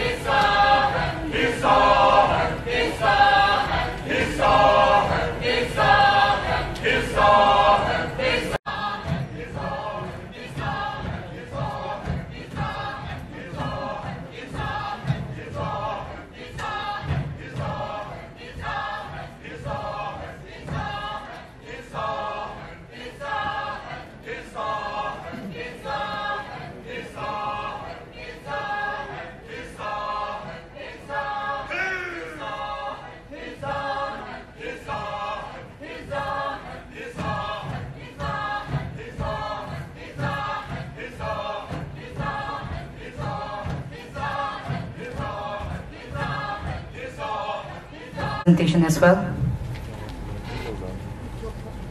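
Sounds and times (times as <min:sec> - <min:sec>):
choir singing: 0:00.0 - 0:48.7.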